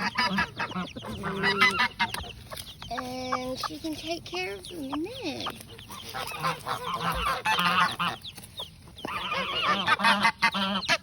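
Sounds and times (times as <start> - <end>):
hen clucking: 0.0 - 11.0.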